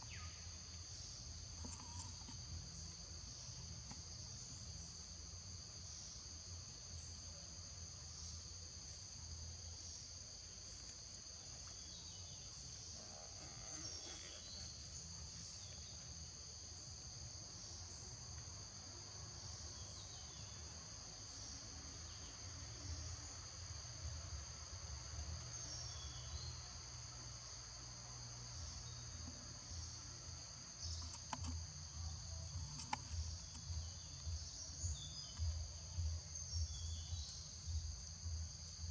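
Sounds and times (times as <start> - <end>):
insects chorusing: 0.0 - 38.9.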